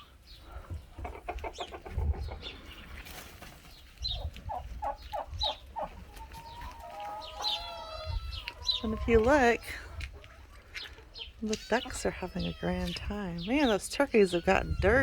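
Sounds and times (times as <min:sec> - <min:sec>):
chickens and turkeys calling: 0:00.0 - 0:15.0
chickens clucking: 0:00.0 - 0:15.0.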